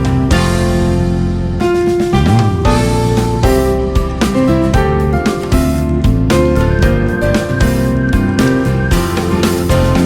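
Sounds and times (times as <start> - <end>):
keyboard and piano music with beat: 0.0 - 10.0.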